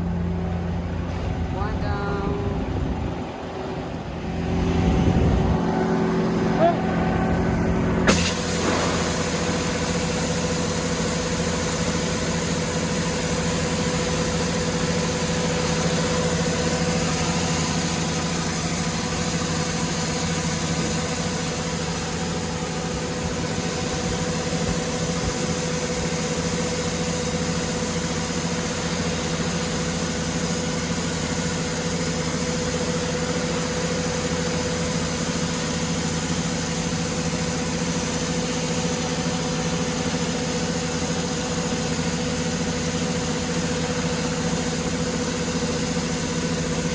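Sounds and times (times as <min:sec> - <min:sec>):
harvester engine running: 0:00.0 - 0:46.9.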